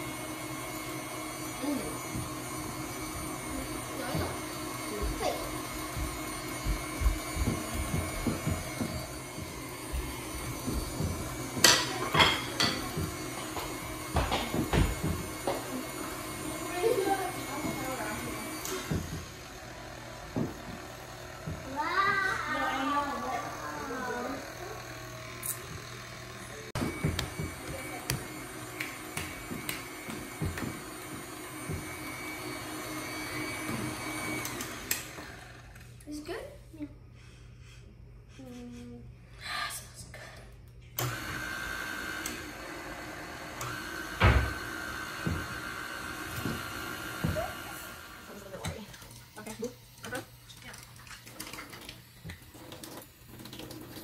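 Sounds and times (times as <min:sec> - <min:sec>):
stand mixer motor hum: 0:00.0 - 0:36.0, 0:41.0 - 0:50.6.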